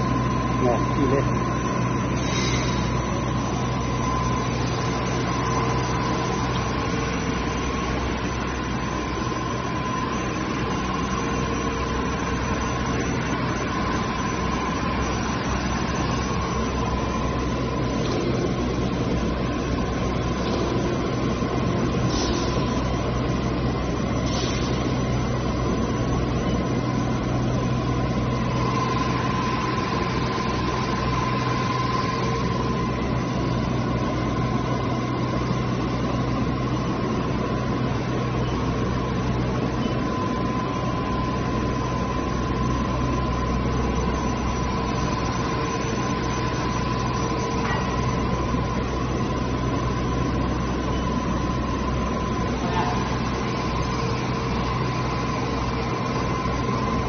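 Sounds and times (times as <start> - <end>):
mixer motor hum and whine: 0.0 - 57.0.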